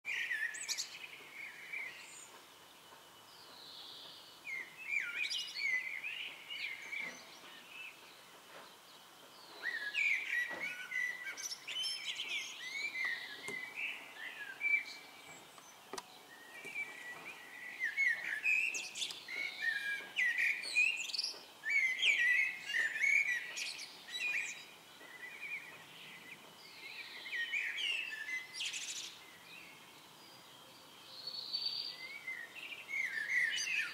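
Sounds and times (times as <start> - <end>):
songbirds chirping and singing: 0.1 - 33.9.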